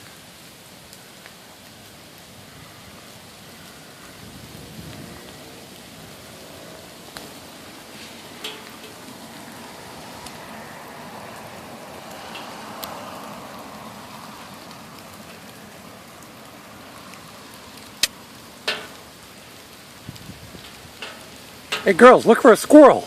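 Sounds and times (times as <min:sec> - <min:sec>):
raindrops tapping close by: 0:00.0 - 0:23.0
steady rain hiss: 0:00.0 - 0:23.0.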